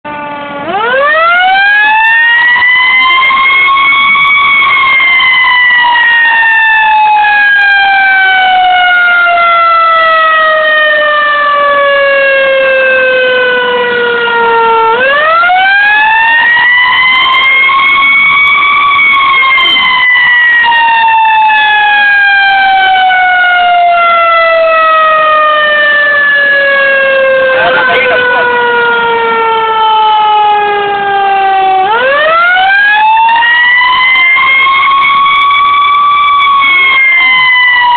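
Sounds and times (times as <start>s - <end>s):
fire siren wailing: 0.0s - 37.9s.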